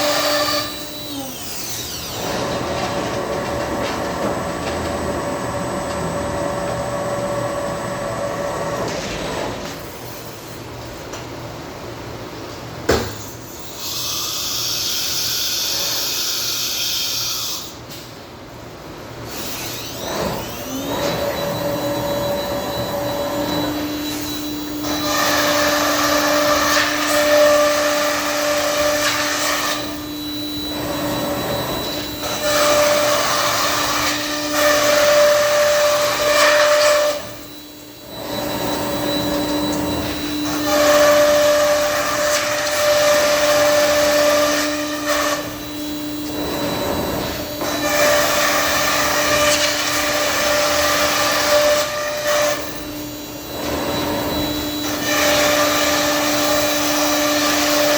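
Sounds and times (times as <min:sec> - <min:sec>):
router spindle whine: 0:00.0 - 0:09.7, 0:19.3 - 0:57.9.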